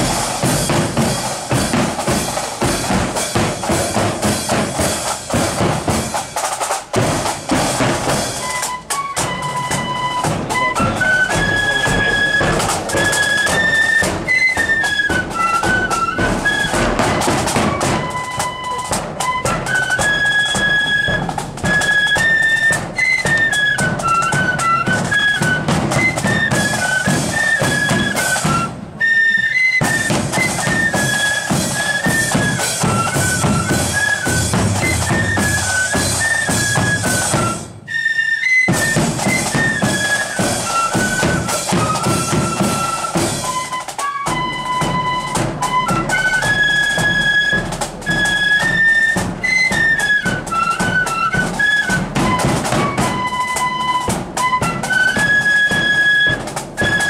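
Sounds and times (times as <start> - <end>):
bass drum and snare drums: 0.0 - 29.0, 29.7 - 37.9, 38.7 - 57.0
flutes playing a tune: 0.0 - 57.0.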